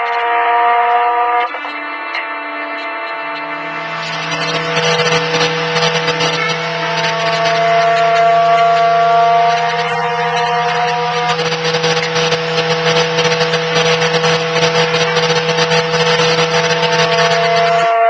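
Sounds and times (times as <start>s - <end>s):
droning tones: 0.0s - 18.0s.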